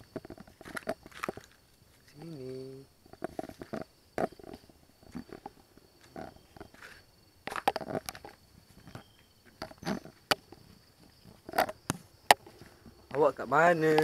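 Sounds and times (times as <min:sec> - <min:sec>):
crunching footsteps: 0:00.0 - 0:14.0
faint high whine: 0:00.0 - 0:14.0.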